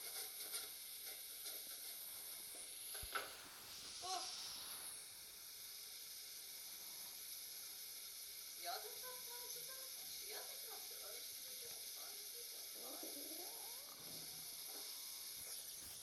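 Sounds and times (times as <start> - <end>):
low room noise hiss: 0.0 - 16.0.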